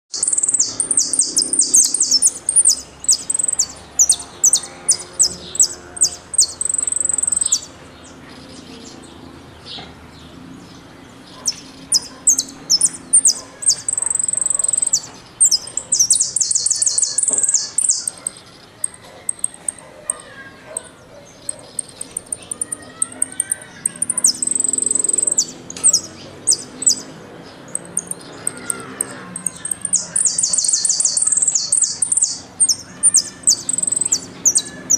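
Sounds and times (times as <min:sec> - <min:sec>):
finch singing: 0:00.1 - 0:34.9.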